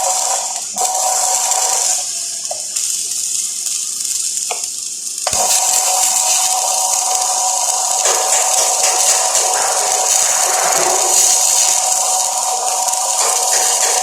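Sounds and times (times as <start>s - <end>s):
welding arc hissing: 0.0s - 14.0s.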